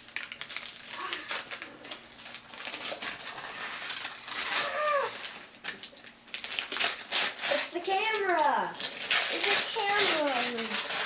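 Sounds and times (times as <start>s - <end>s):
wrapping paper tearing: 0.0s - 11.0s.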